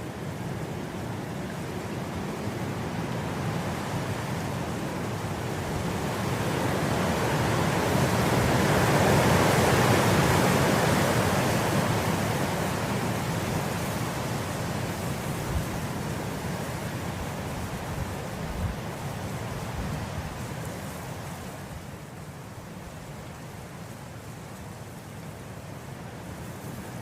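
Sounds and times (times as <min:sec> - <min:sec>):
wind blowing through grass: 0:00.0 - 0:27.0.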